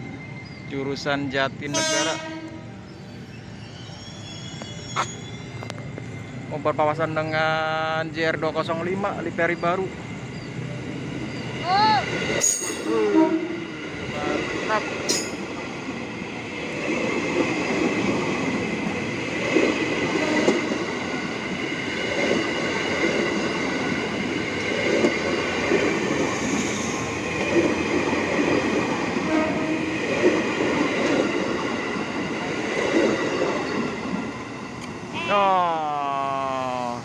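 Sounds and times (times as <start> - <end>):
train wheels rumbling on rails: 0.0 - 35.1.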